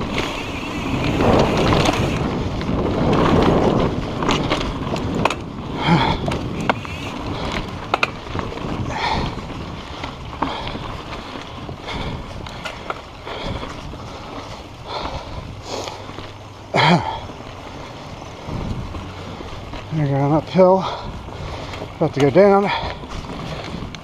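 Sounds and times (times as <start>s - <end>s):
wind on microphone: 0.0s - 16.2s, 18.0s - 19.9s, 22.7s - 24.0s
bike clicks and rattles: 0.0s - 24.0s
bike tyres on dirt: 0.0s - 24.0s.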